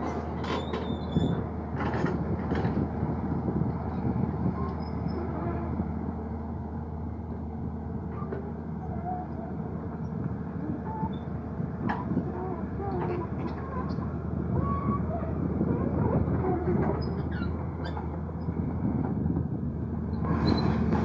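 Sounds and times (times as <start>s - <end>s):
excavator tracks moving: 0.0s - 5.9s, 7.3s - 21.0s
excavator diesel engine running: 0.0s - 21.0s.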